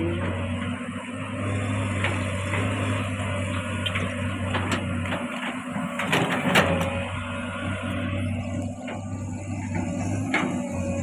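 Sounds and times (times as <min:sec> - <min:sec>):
excavator diesel engine running: 0:00.0 - 0:11.0
knocks and clanks of machine digging: 0:00.0 - 0:11.0.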